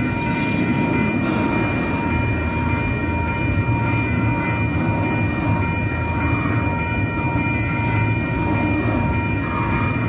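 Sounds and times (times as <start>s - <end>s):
high-pitched ringing tone: 0.0s - 10.0s
train wheels rumbling on rails: 0.0s - 10.0s.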